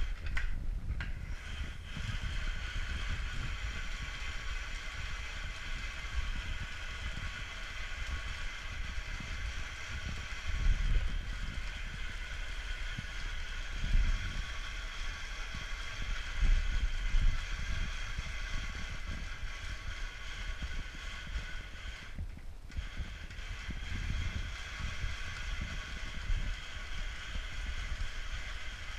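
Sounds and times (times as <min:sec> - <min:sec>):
grain mill whirring grind: 0:00.0 - 0:28.9.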